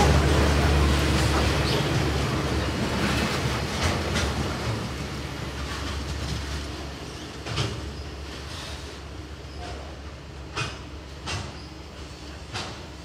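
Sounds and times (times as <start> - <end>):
freight train rumbling past: 0.0 - 13.0
train wheel clacks: 0.0 - 13.0.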